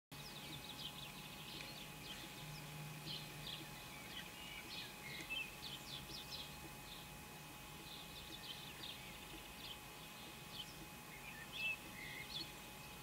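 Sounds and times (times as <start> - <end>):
faint low hum: 0.2 - 13.0
small birds chirping: 0.2 - 13.0.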